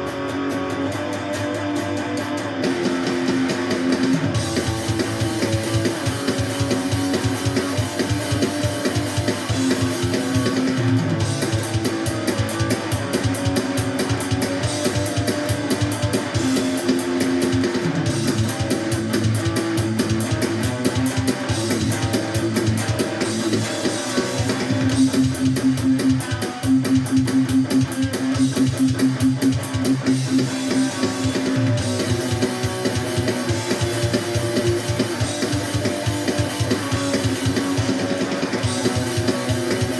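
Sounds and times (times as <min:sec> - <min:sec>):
bass: 0:00.0 - 0:39.9
drum kit beat: 0:00.0 - 0:39.9
strummed guitar: 0:00.0 - 0:39.9.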